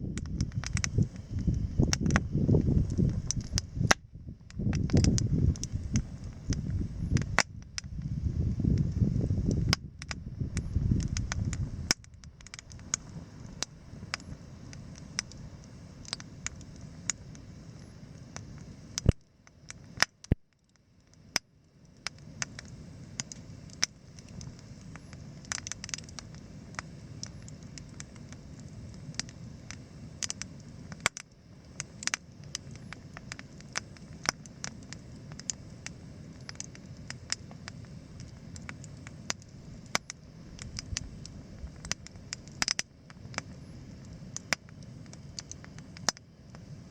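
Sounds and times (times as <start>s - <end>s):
campfire crackling and popping: 0.0s - 46.9s
soft steady hiss: 0.0s - 46.9s.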